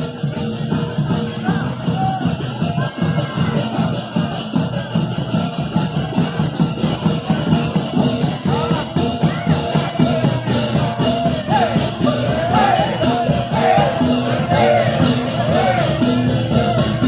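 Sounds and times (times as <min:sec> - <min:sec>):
metallic percussion strokes: 0:00.0 - 0:17.0.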